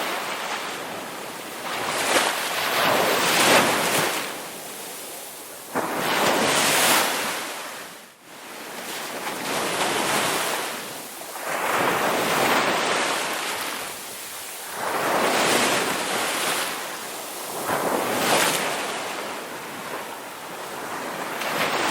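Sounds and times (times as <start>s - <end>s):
sea waves breaking on beach: 0.0s - 21.9s.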